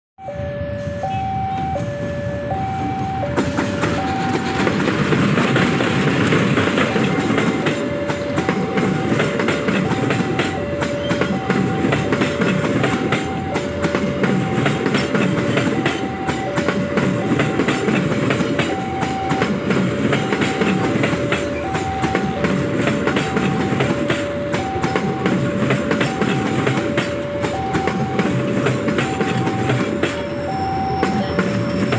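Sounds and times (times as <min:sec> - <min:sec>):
two-tone electronic warning signal: 0:00.2 - 0:31.9
diesel locomotive rumble: 0:01.0 - 0:31.9
train wheels clicking over rail joints: 0:03.3 - 0:31.9.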